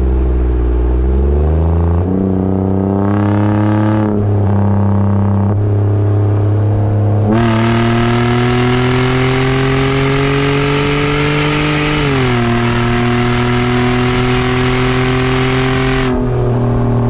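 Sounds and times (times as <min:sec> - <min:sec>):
car engine at raised revs: 0:00.0 - 0:17.0.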